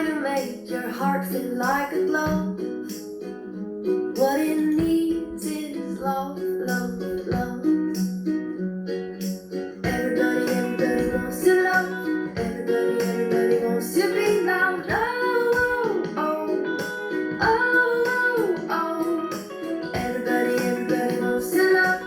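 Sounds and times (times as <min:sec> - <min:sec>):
woman singing: 0:00.0 - 0:03.0, 0:04.2 - 0:08.0, 0:09.8 - 0:22.0
plucked acoustic guitar: 0:00.0 - 0:22.0.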